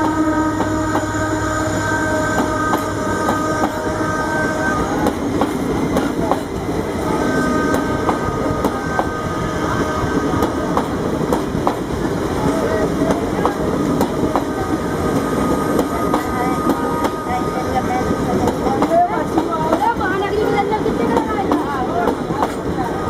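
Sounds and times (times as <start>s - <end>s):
locomotive horn blasts: 0.0s - 11.4s, 12.3s - 19.4s
train rumbling: 0.0s - 23.0s.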